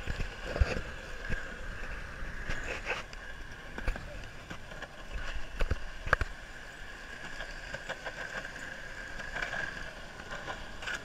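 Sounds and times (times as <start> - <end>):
skateboard wheels rolling on asphalt: 0.0 - 11.0.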